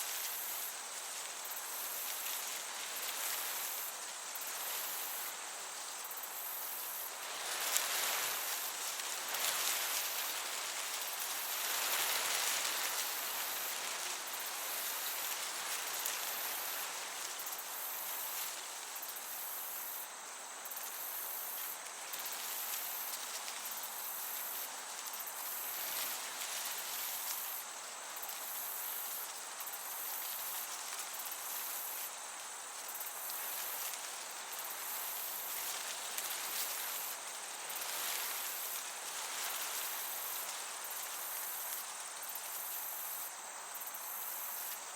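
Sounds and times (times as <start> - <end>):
crickets chirping: 0.0 - 44.9
gentle breeze: 0.0 - 44.9.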